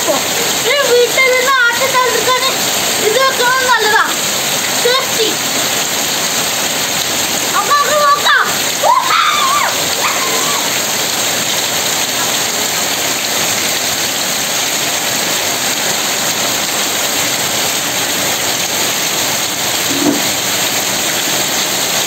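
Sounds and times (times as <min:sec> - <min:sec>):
heavy rain downpour: 0:00.0 - 0:22.0.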